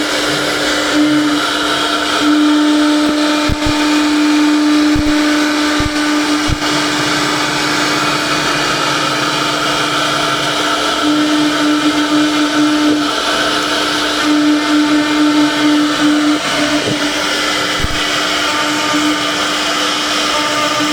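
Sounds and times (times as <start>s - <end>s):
router spindle whine: 0.0s - 20.9s
rushing wood cutting noise: 0.0s - 20.9s.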